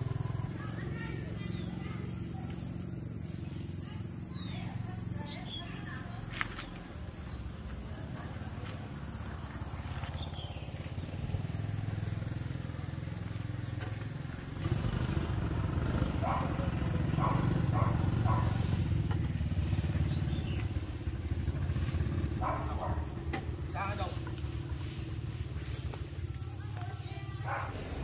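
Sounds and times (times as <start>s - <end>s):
high-pitched insect drone: 0.0s - 28.0s
small engine running: 0.0s - 28.0s.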